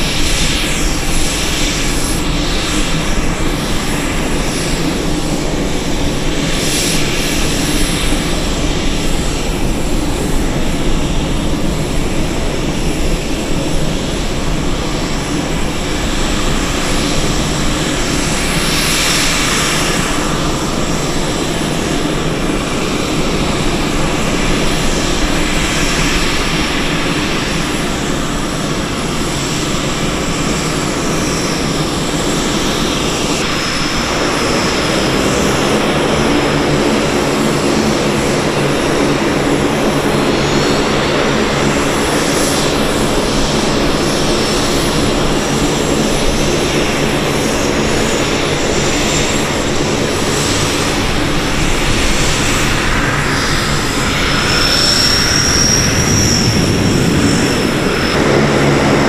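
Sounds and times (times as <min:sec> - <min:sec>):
engine spooling up whine: 0:00.0 - 0:59.0
turboprop engines running: 0:00.0 - 0:59.0.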